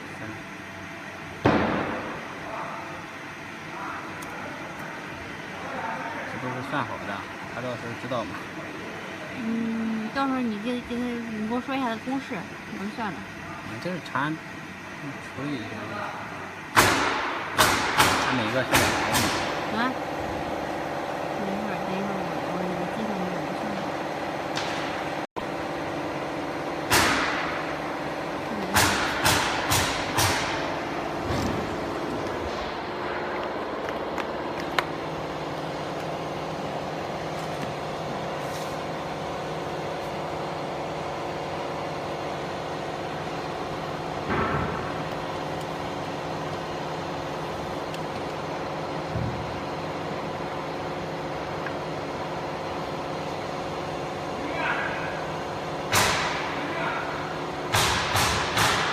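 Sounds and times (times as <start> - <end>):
machinery humming: 0.0 - 58.9.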